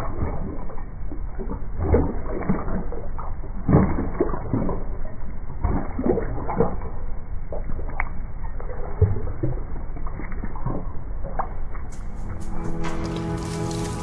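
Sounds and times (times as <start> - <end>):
dog lapping water: 0.0 - 14.0.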